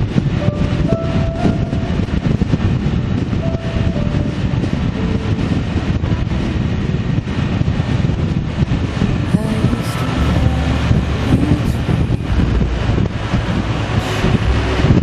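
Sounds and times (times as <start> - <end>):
vehicle rumbling: 0.0 - 15.0
wind buffeting microphone: 0.0 - 15.0.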